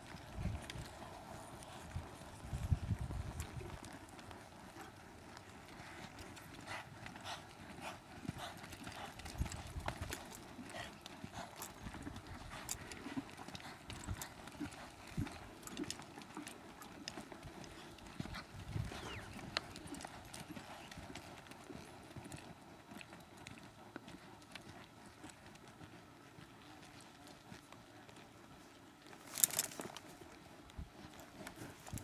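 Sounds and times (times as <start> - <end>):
hoofbeats on soft dirt: 0.0 - 32.0.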